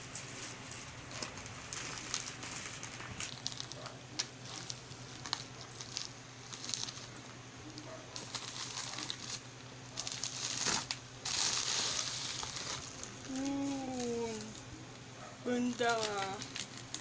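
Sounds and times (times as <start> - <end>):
plastic crinkling and crackling: 0.0 - 14.7, 15.5 - 17.0
plastic packaging tearing: 0.2 - 7.1, 8.2 - 14.6, 15.6 - 17.0.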